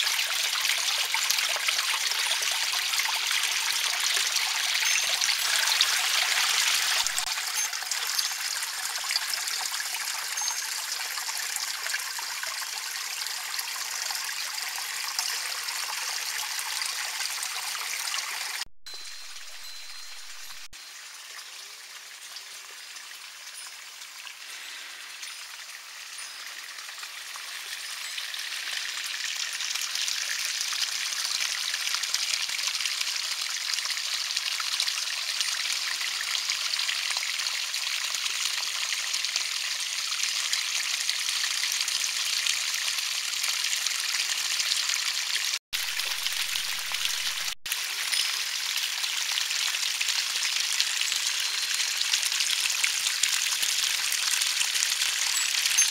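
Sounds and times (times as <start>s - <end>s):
stream splashing over stones: 0.0s - 55.9s.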